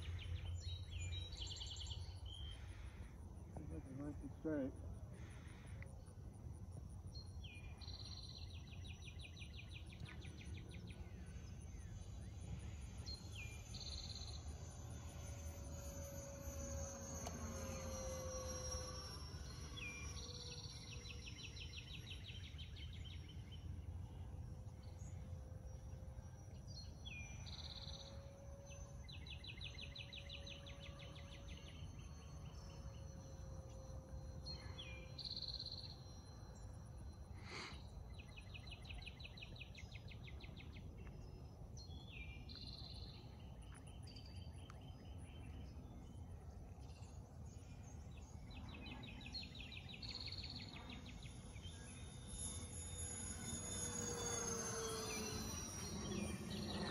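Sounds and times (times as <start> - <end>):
songbird singing a trill: 0.0 - 2.9, 7.1 - 56.9.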